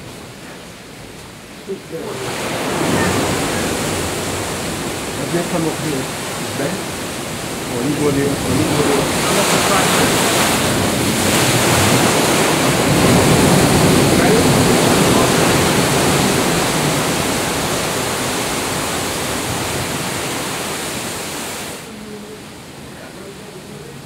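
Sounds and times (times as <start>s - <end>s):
sea waves breaking over rocks: 0.0s - 24.0s.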